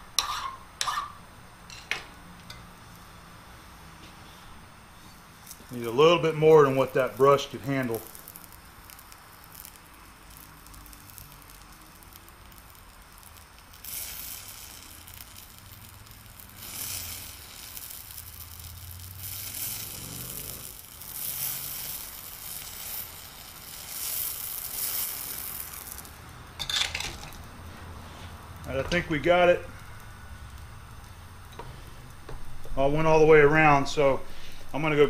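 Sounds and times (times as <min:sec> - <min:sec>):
spray torch hissing: 0:02.8 - 0:35.0.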